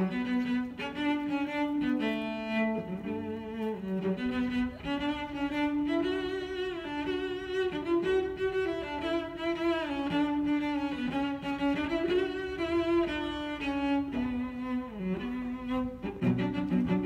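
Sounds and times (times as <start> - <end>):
bowed string slow melody: 0.0 - 17.0.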